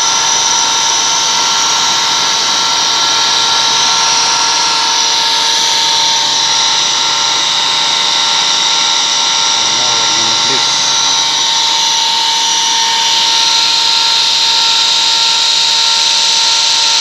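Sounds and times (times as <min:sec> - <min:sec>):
screw air compressor whining: 0:00.0 - 0:17.0.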